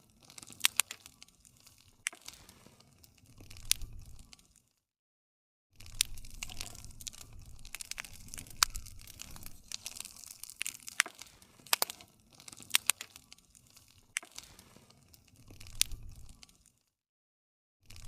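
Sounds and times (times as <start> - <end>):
low rumble of flames: 0.0 - 4.7, 5.8 - 16.8
campfire crackling and popping: 0.0 - 4.8, 5.8 - 17.0.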